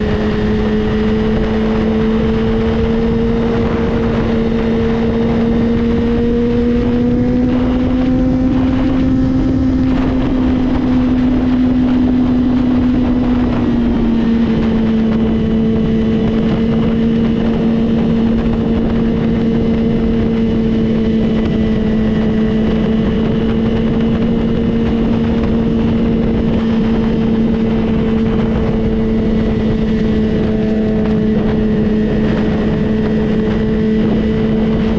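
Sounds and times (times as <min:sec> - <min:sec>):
motorcycle engine cruising: 0:00.0 - 0:34.9
wind rushing over microphone: 0:00.0 - 0:34.9.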